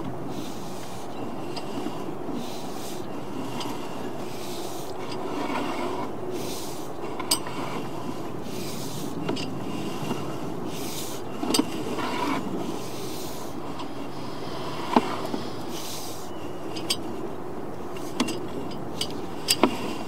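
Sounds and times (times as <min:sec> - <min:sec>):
push rod rubbing and scraping: 0:00.4 - 0:17.3, 0:17.9 - 0:20.0.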